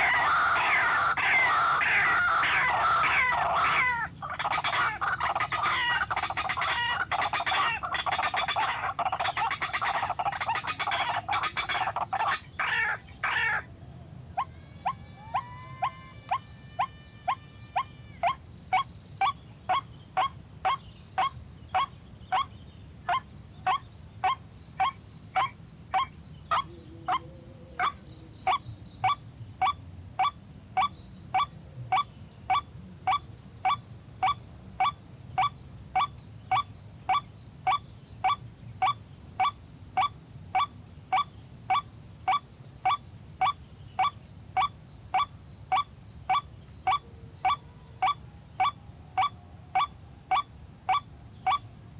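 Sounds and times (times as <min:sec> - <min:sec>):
waterhen calling: 0:00.0 - 0:51.8.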